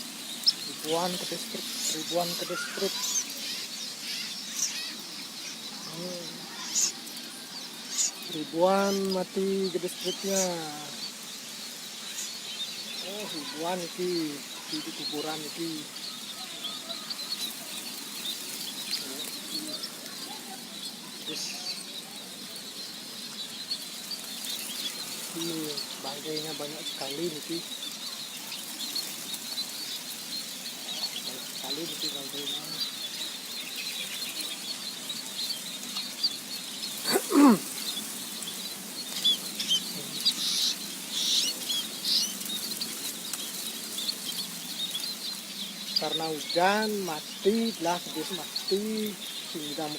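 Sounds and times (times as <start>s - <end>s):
small birds chirping: 0.0s - 49.9s
steady hiss: 0.0s - 49.9s.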